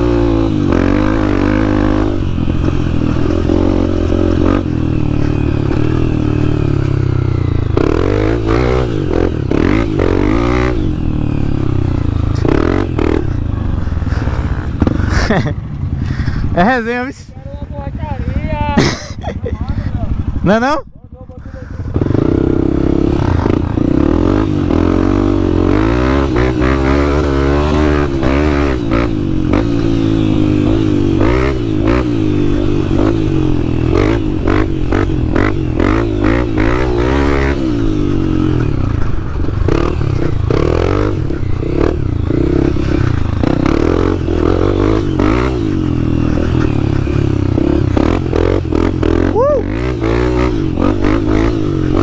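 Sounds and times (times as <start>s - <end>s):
dirt bike engine revving: 0.0s - 17.3s, 21.4s - 52.0s.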